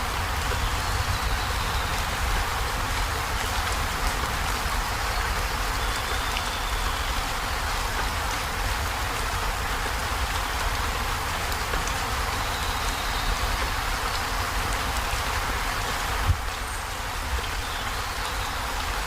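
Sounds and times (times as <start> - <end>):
heavy rain on a metal roof: 0.0 - 19.0.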